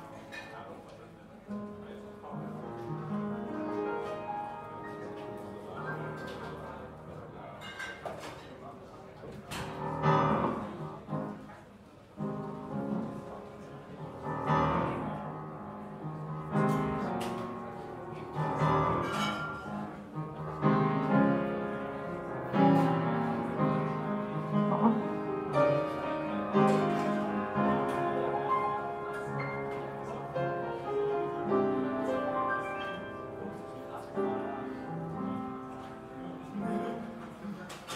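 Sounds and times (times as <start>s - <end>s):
piano: 0.0s - 37.9s.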